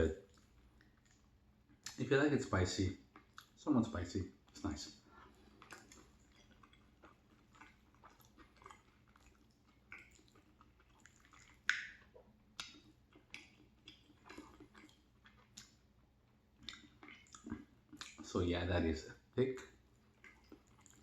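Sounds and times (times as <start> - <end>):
close-up wet chewing: 0.2 - 2.0, 2.9 - 18.4, 19.6 - 21.0.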